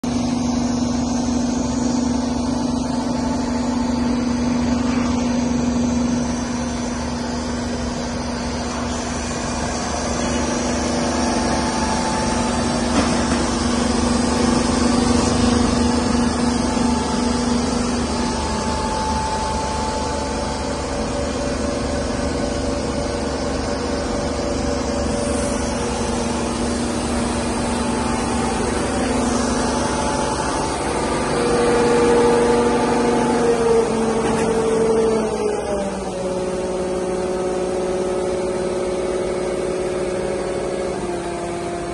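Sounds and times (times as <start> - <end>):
engine and pump hum: 0.0 - 41.9.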